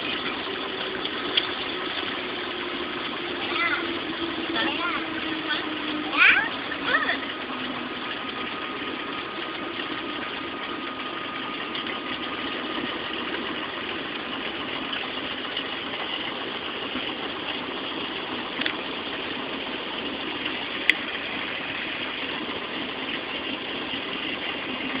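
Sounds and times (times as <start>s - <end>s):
small airplane engine drone: 0.0s - 25.0s.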